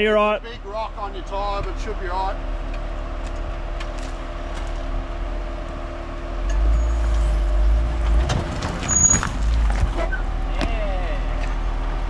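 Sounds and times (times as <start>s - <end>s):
vehicle engine rumbling at low revs: 0.0s - 12.0s.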